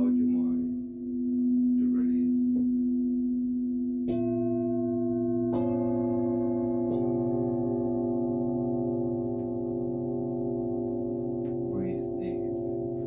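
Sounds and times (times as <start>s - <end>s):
singing bowl being struck: 0.0s - 13.0s
singing bowls ringing: 0.0s - 13.0s.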